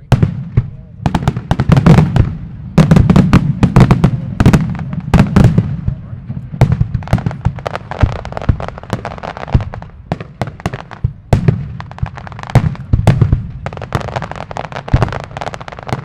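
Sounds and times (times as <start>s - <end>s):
deep fireworks booms: 0.0s - 16.0s
fireworks cracking and popping: 0.0s - 16.0s.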